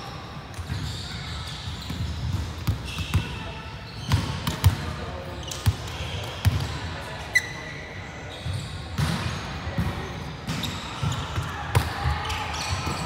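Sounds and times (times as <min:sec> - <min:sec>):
sneaker squeaks: 0:00.0 - 0:13.0.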